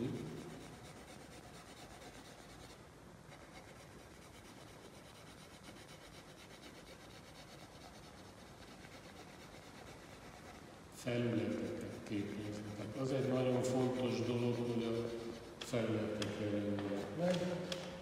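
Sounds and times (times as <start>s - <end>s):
pencil rasping on paper: 0.0s - 15.9s.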